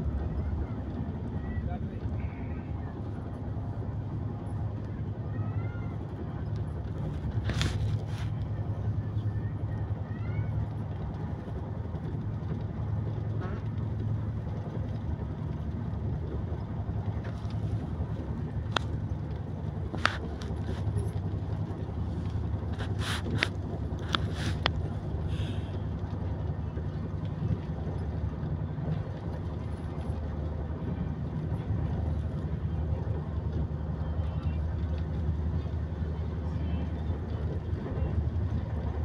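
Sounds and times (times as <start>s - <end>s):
train rumbling at speed: 0.0s - 39.0s.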